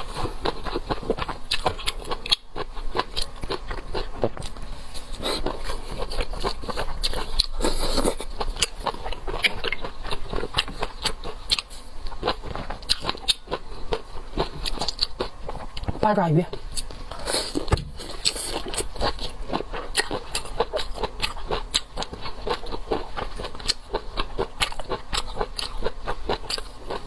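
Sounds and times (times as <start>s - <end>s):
chewing: 0.0s - 16.0s, 16.7s - 27.0s.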